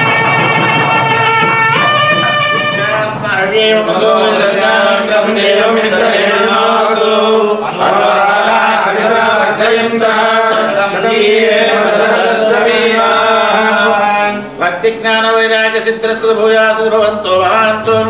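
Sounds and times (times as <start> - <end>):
man chanting: 1.7 - 18.0.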